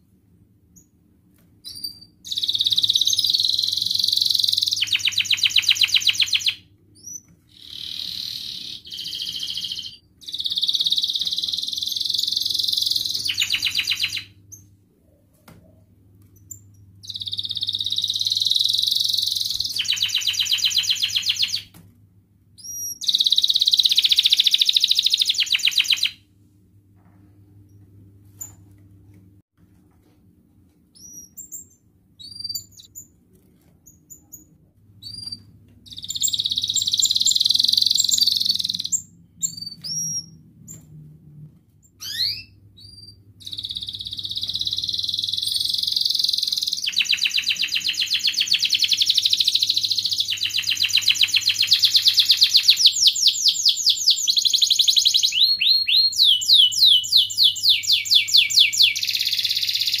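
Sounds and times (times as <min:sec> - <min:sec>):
canary singing trills: 0:01.6 - 0:14.7, 0:16.4 - 0:21.7, 0:22.6 - 0:26.2, 0:30.9 - 0:33.2, 0:33.9 - 0:40.8, 0:41.9 - 1:00.0.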